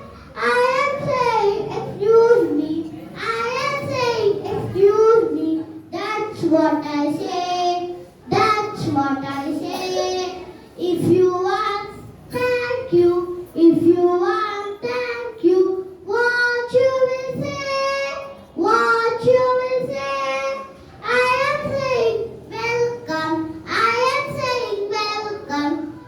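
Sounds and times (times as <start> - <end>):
child singing: 0.0 - 26.0.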